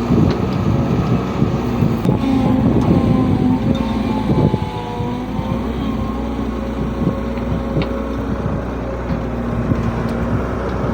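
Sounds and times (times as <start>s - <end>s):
diesel engine running: 0.0s - 10.9s.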